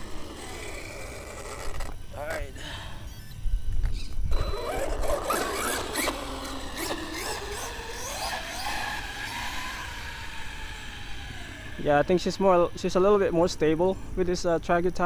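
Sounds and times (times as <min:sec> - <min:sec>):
rc truck motor whining: 0:00.0 - 0:14.5.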